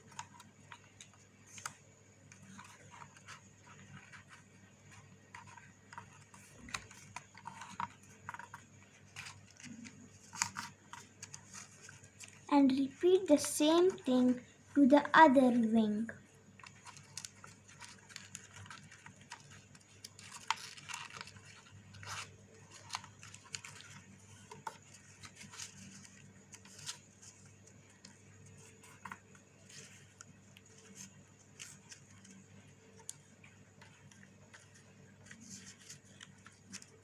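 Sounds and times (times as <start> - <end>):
paper rustling and crinkling: 0.0 - 14.4, 16.5 - 37.0.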